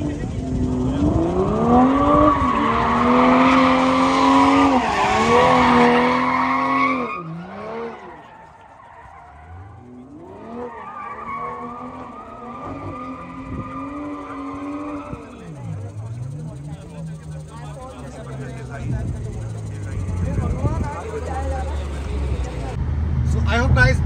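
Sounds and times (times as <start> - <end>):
car engine revving: 0.0 - 24.0
tyres skidding: 0.0 - 24.0.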